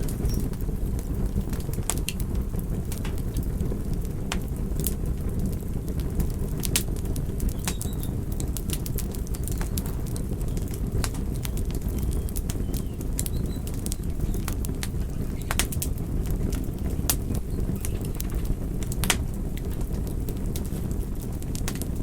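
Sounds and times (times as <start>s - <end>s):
sharp fire pops: 0.0s - 22.0s
wood fire crackling: 0.0s - 22.0s.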